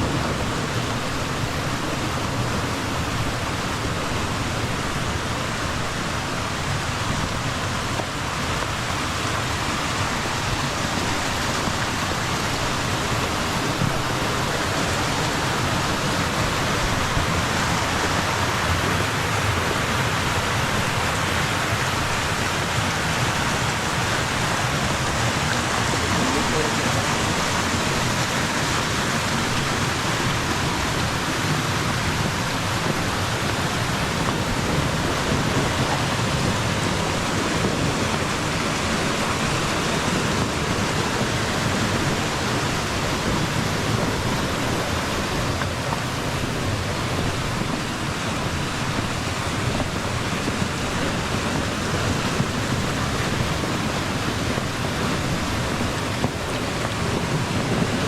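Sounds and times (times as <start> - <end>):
snowstorm hiss: 0.0 - 58.0.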